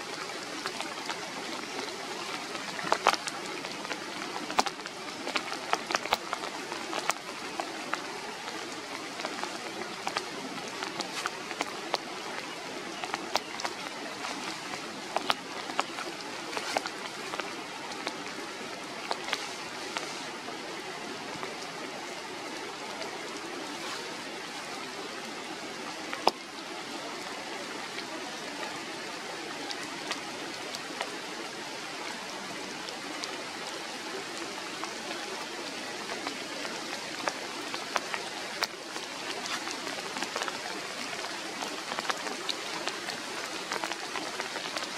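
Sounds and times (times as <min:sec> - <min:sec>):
drips ticking on leaves: 0:00.0 - 0:44.9
rain falling through foliage: 0:00.0 - 0:44.9.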